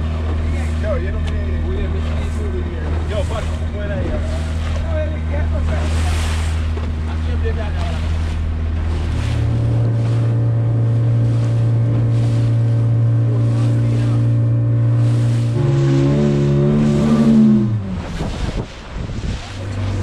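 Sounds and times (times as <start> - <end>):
boat engine running: 0.0 - 20.0
wind and water noise: 0.0 - 20.0.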